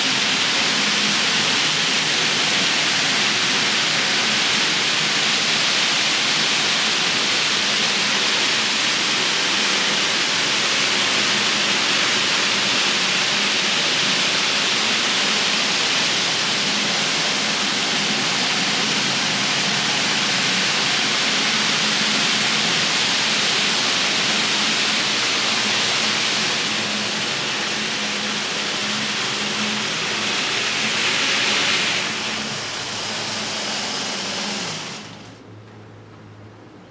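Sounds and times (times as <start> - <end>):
steady hiss: 0.0 - 35.4.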